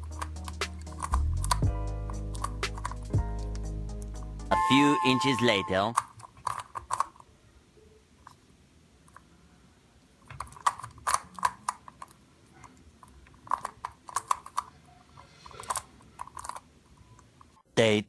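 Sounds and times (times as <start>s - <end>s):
plastic puzzle clicks: 0.0s - 4.4s, 5.9s - 7.3s, 8.2s - 9.3s, 10.0s - 17.6s.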